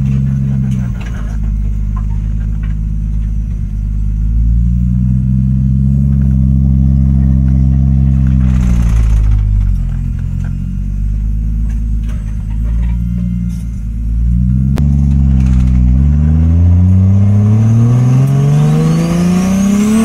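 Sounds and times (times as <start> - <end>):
car engine from inside cabin: 0.0 - 20.0.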